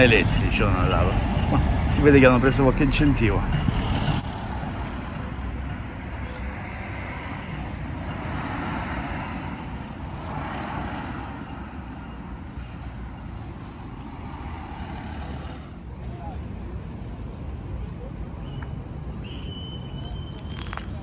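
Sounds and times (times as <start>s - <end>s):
cars passing: 0.0s - 19.4s
low traffic rumble: 0.0s - 21.0s.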